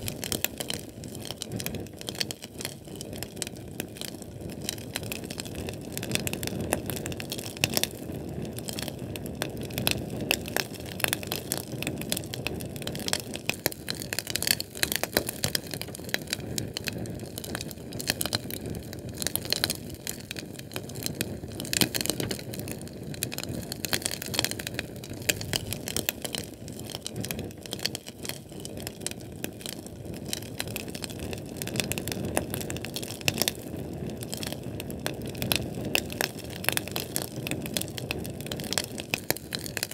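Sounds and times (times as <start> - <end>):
fire crackling and popping: 0.0 - 39.9
low roar of flame: 0.0 - 39.9.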